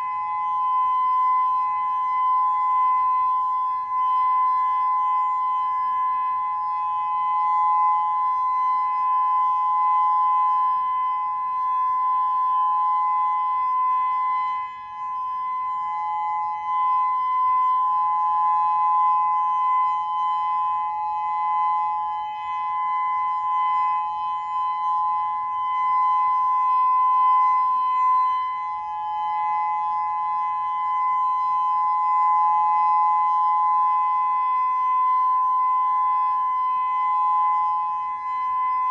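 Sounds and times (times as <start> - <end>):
electronic warning siren: 0.0 - 38.9.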